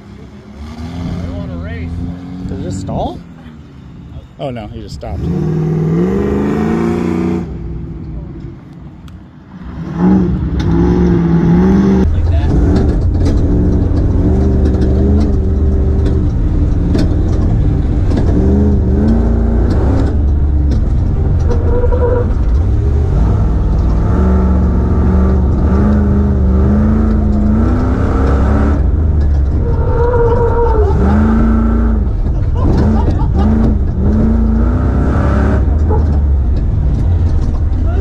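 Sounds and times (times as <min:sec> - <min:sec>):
truck engine accelerating hard: 0:00.0 - 0:38.0.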